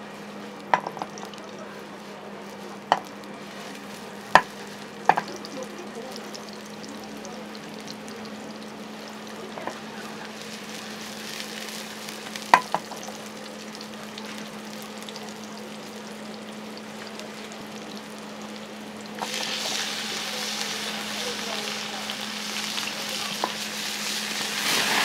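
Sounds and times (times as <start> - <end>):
onion sizzling in hot oil: 0.0 - 25.0.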